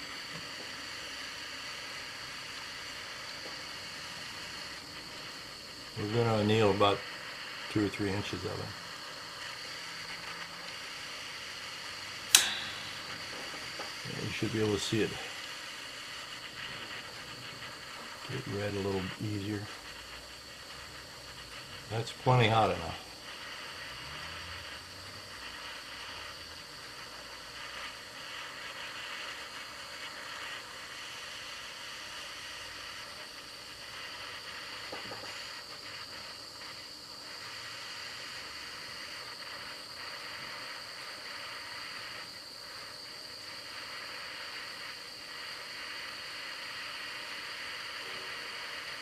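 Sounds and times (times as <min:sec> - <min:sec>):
gas torch hissing: 0:00.0 - 0:49.0.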